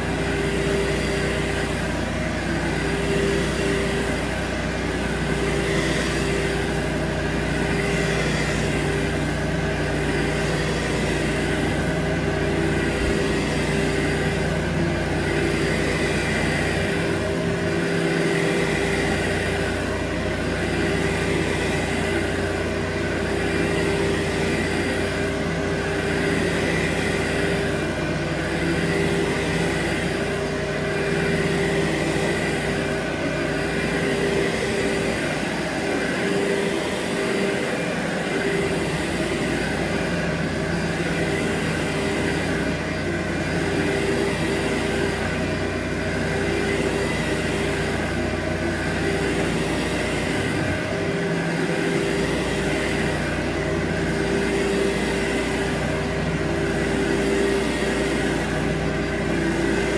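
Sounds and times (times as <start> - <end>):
carpet cleaner motor whining: 0.0 - 59.9.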